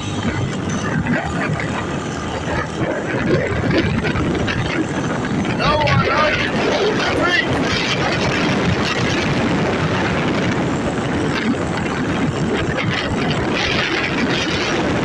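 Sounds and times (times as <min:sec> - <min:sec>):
storm wind buffeting microphone: 0:00.0 - 0:15.0.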